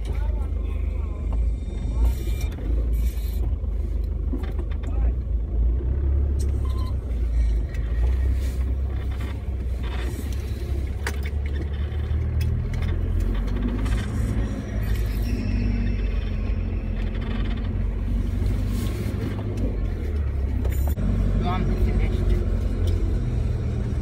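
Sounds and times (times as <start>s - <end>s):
off-road vehicle engine rumble: 0.0s - 24.0s.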